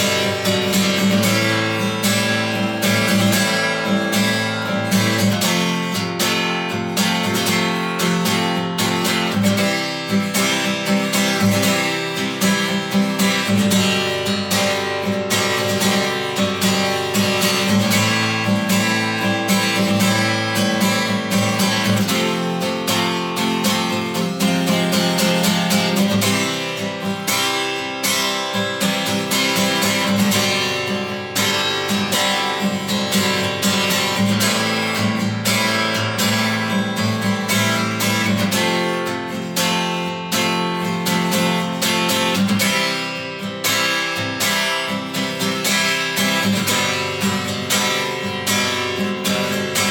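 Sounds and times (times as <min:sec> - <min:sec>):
acoustic guitar strummed chords: 0:00.0 - 0:49.9.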